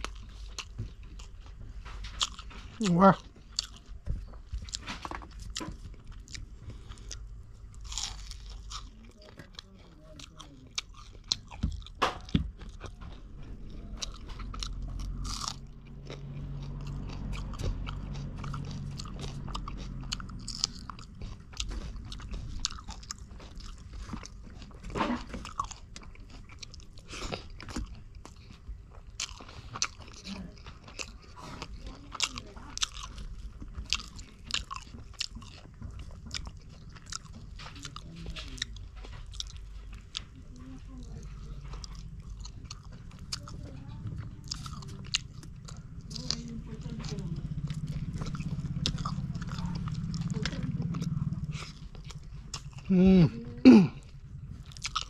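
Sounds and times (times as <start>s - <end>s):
crunchy bites: 0.0s - 55.0s
wet chewing: 0.0s - 55.0s.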